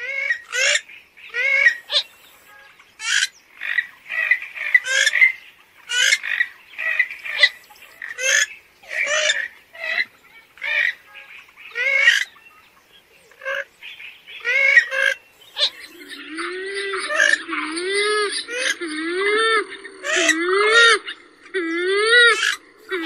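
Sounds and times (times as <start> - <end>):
bird cackling calls: 0.0 - 23.0.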